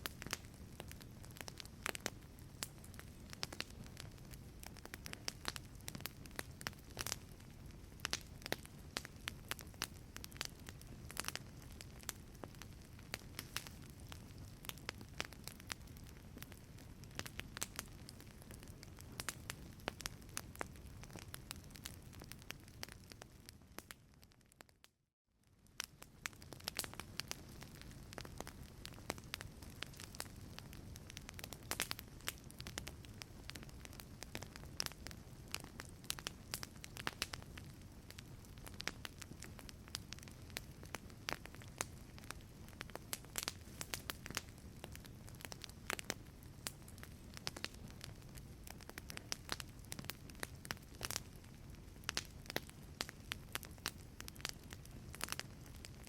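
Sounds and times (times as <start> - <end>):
wood fire crackling: 0.0 - 24.7, 25.5 - 56.0.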